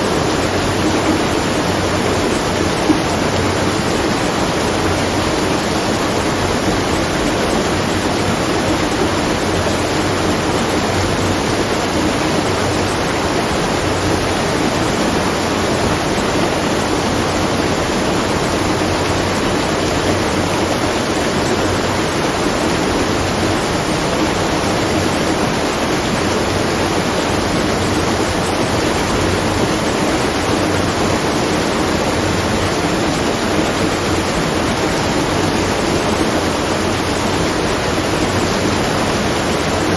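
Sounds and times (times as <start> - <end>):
water rushing at a watermill: 0.0 - 39.9.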